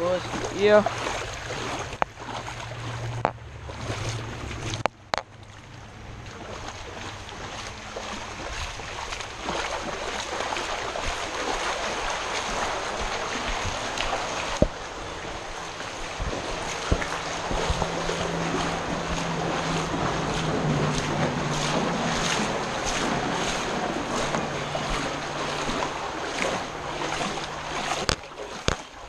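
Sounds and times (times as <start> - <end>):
water rushing through culvert: 0.0 - 29.0.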